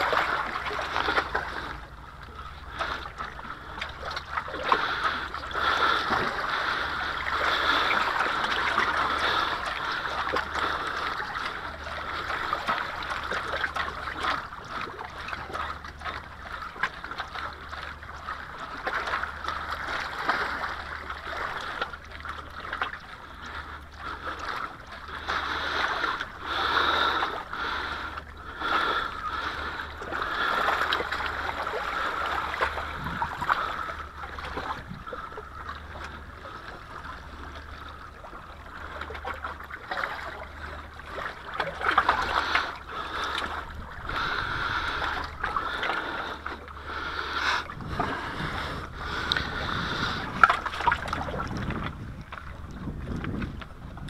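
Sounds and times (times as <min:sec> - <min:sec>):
waves splashing against rocks: 0:00.0 - 0:54.0.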